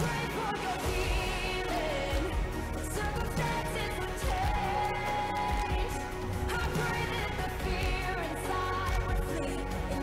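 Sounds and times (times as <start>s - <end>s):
pop song with singing: 0.0s - 10.0s.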